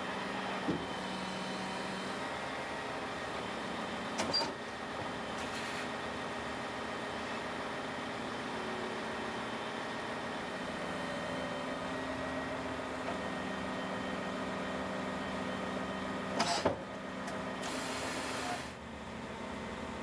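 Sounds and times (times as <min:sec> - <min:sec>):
concrete pump mechanical hum: 0:00.0 - 0:20.0.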